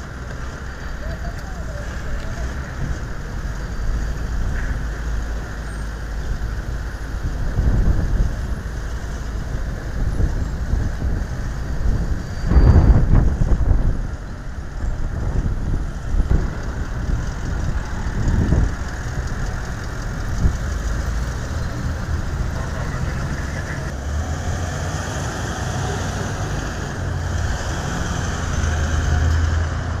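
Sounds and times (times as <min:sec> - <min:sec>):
low engine hum: 0:00.0 - 0:30.0
vehicles driving slowly past: 0:00.0 - 0:30.0.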